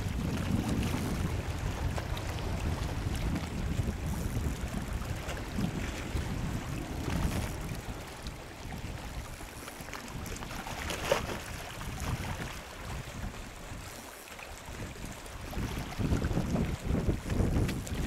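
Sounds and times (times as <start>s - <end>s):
wind buffeting the microphone: 0.0s - 18.0s.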